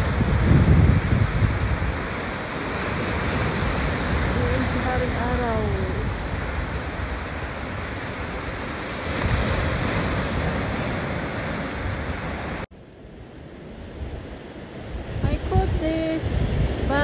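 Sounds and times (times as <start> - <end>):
wind on microphone: 0.0 - 12.6, 13.7 - 17.0.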